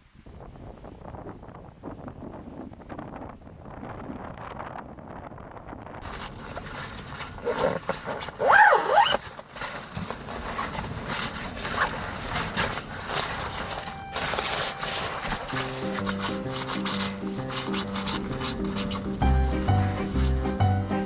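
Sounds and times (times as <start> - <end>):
wind on microphone: 0.0 - 19.2.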